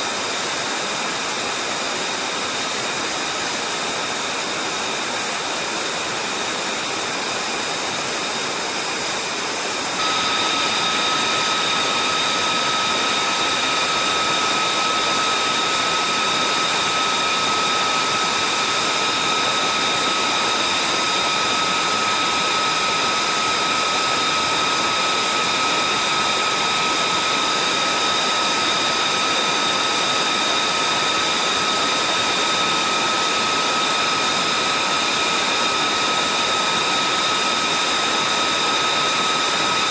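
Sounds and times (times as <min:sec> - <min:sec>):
high-pitched turbine whine: 0:00.0 - 0:39.9
jet engine idling roar: 0:00.0 - 0:39.9.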